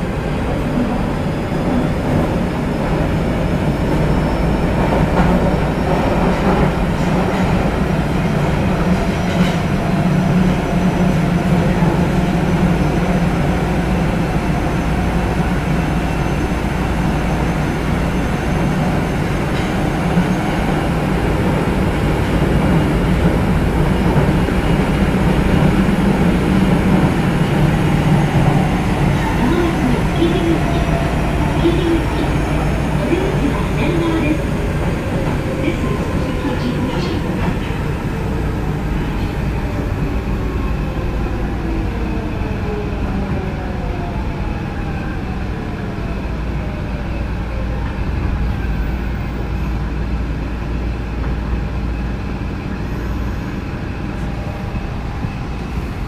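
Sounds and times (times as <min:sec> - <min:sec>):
train rolling through tunnel: 0:00.0 - 0:56.0.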